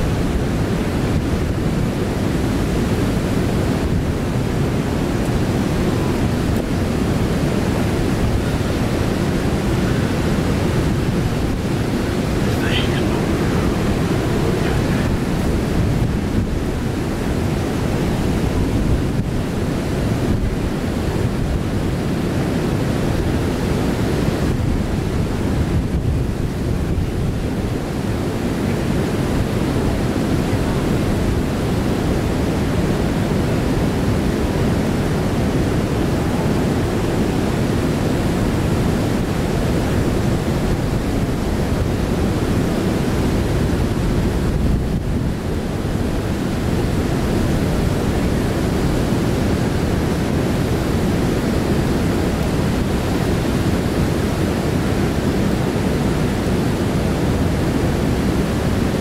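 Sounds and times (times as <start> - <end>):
river water rushing over rapids: 0.0 - 59.0
wind rumbling on microphone: 0.0 - 59.0.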